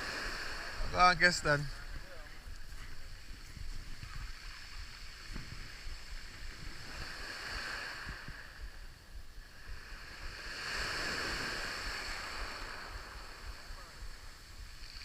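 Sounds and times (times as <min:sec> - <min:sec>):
waves washing on shore: 0:00.0 - 0:15.0
wind buffeting microphone: 0:00.0 - 0:15.0.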